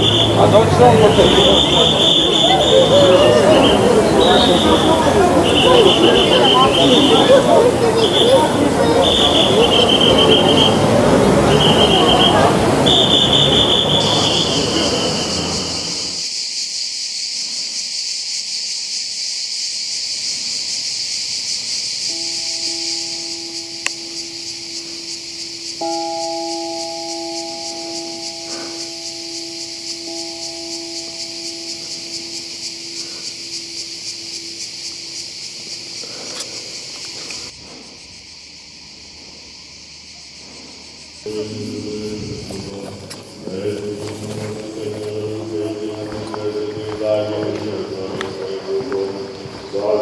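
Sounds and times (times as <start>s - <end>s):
cicadas chorus: 0.0s - 50.0s
insects chirring: 0.0s - 50.0s.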